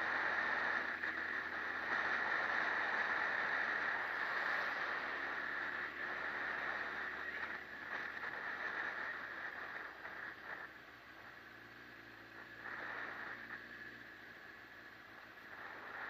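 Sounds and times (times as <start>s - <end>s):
low motorcycle engine hum: 0.0s - 16.0s
wind and road rush: 0.0s - 16.0s.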